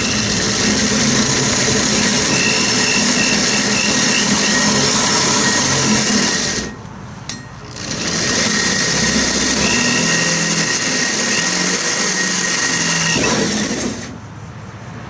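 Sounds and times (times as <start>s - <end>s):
drill cutting sheet metal: 0.0s - 6.8s, 7.7s - 14.2s.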